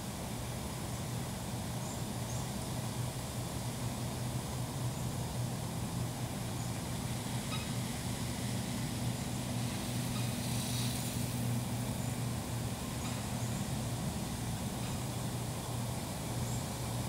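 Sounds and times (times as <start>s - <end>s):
constant low hum: 0.0s - 17.0s
road traffic rumble: 0.0s - 17.0s.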